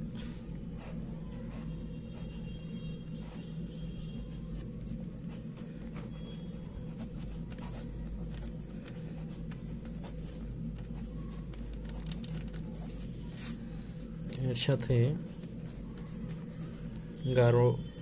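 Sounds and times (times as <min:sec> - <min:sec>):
low electrical hum: 0:00.0 - 0:18.0
pen scratching on paper: 0:00.2 - 0:17.1.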